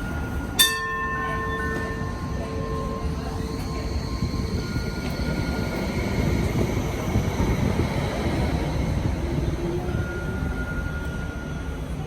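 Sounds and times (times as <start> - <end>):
steel wheels rumbling on track: 0.0 - 12.0.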